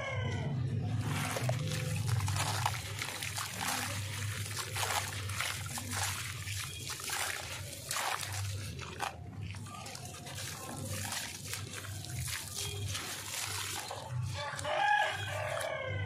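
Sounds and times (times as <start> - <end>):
crunches and crackles of crushing: 0.2 - 16.0.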